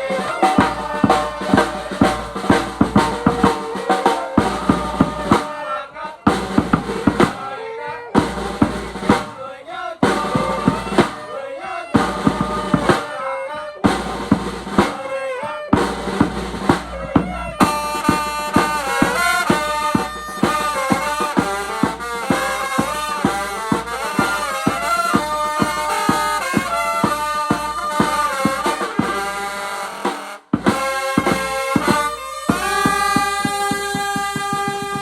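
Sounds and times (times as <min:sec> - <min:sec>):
reedy wind instrument melody: 0:00.0 - 0:07.6, 0:08.2 - 0:35.0
steady drum beat: 0:00.0 - 0:35.0.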